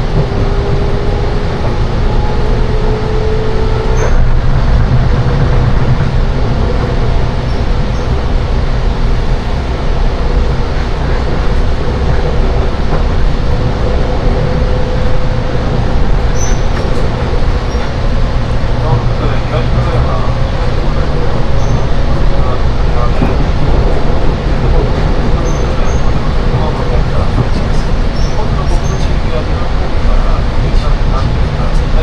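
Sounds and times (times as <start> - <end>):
humming tone: 0.0 - 26.7
train wheels rumbling: 0.0 - 32.0.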